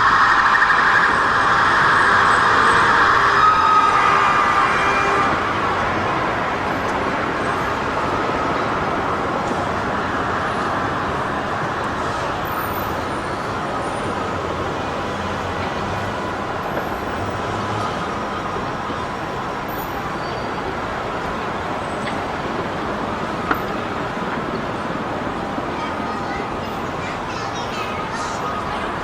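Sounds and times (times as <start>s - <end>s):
city street traffic din: 0.0s - 29.0s.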